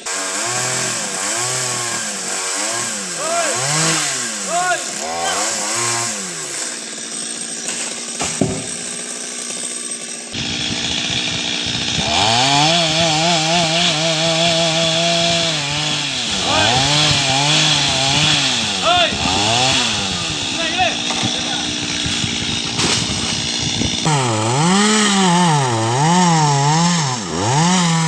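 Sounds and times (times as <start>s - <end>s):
chainsaw revving and idling: 0.0s - 28.0s.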